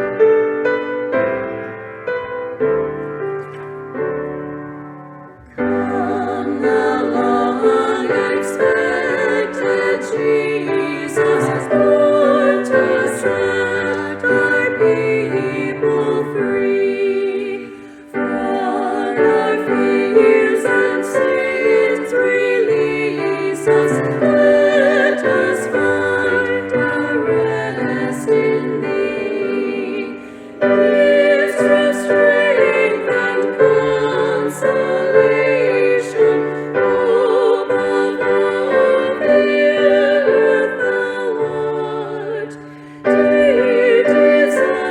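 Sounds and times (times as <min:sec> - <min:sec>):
piano accompaniment: 0:00.0 - 0:44.9
women singing in harmony: 0:05.4 - 0:44.9.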